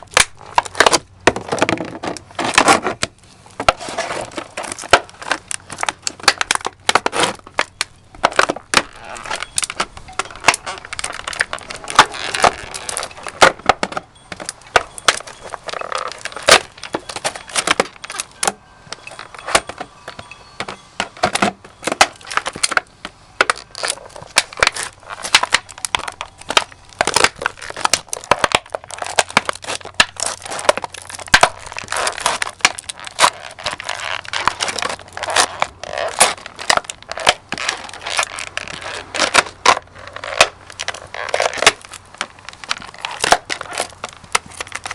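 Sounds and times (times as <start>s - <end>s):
boots crushing plastic jar: 0.0s - 44.9s.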